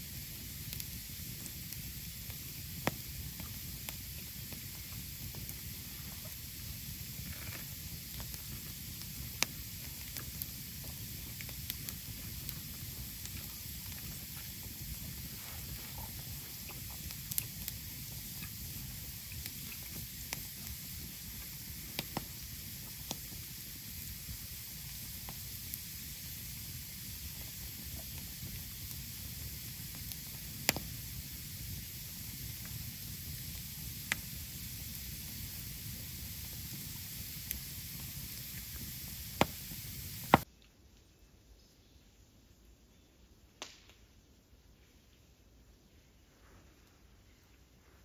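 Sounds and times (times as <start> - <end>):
campfire hissing: 0.0 - 40.5
fire crackling and popping: 0.0 - 40.5, 43.6 - 44.0.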